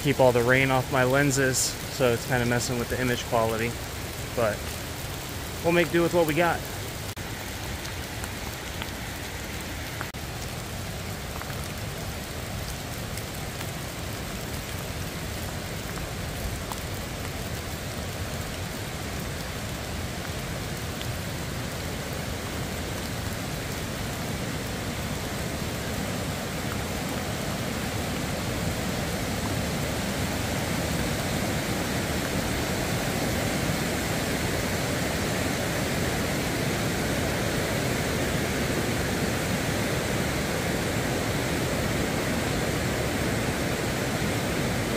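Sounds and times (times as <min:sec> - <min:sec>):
rushing river water: 0:00.0 - 0:44.9
steady rain falling: 0:00.0 - 0:44.9.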